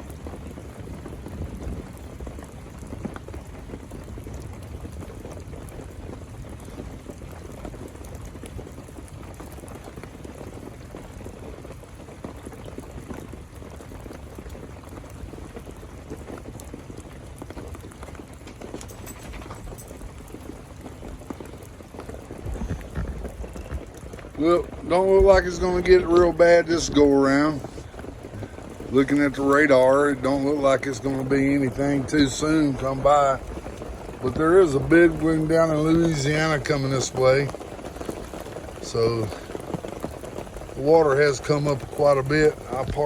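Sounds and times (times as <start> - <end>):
running water: 0.0 - 43.0
steady rain: 0.0 - 43.0
water drips: 0.0 - 43.0.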